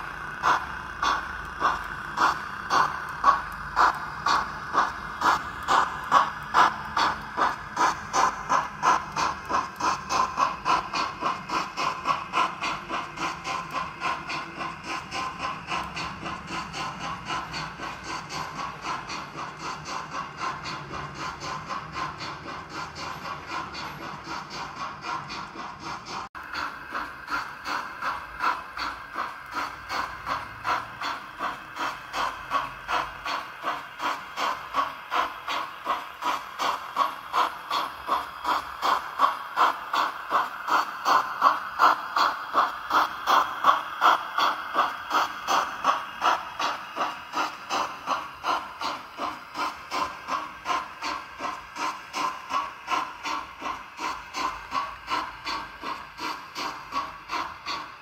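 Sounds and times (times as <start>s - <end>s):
model train steam chuffs: 0.0s - 58.0s.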